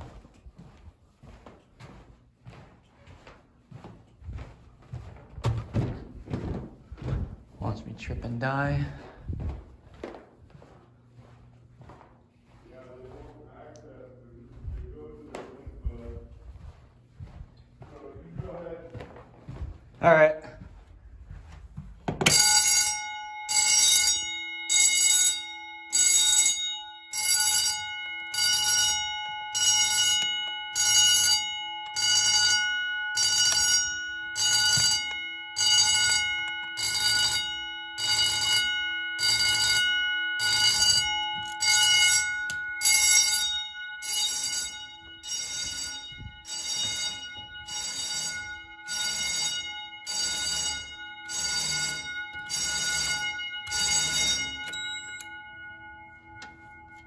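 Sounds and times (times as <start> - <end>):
fire alarm bells ringing: 0.0 - 57.0.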